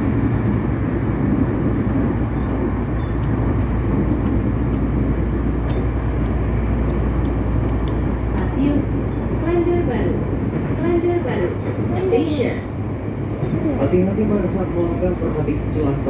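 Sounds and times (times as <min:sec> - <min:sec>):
train cabin rumble: 0:00.0 - 0:16.0.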